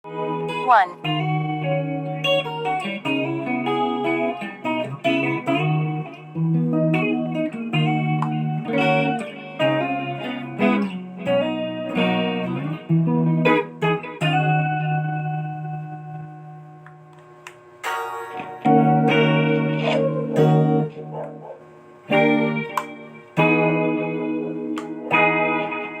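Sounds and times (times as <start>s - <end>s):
guitar notes and chords: 0.0s - 26.0s.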